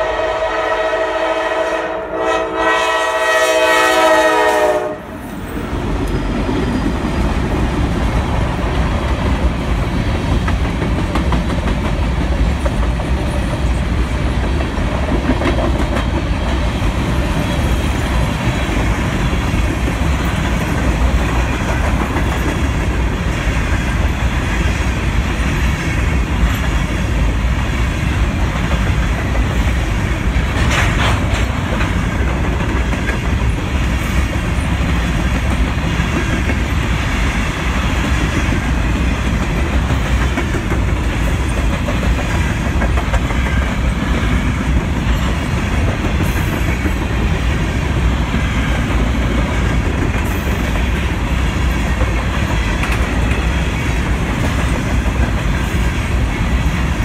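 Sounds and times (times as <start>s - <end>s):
train wheels clattering over rails: 4.3s - 57.0s.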